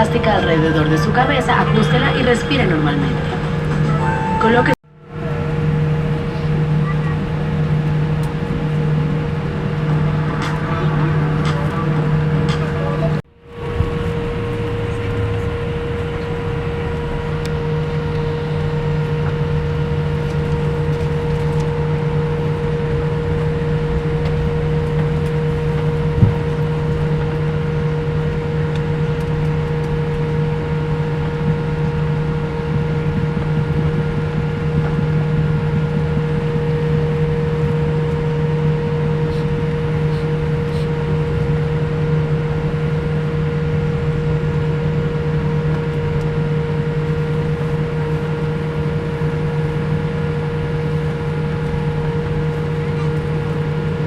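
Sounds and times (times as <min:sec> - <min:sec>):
jet engine drone in cabin: 0:00.0 - 0:54.0
steady hums: 0:00.0 - 0:54.0.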